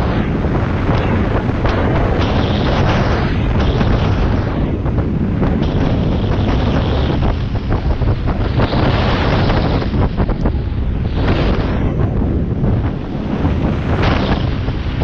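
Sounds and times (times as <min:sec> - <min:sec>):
rush of water: 0:00.0 - 0:15.0
wind buffeting microphone: 0:00.0 - 0:15.0.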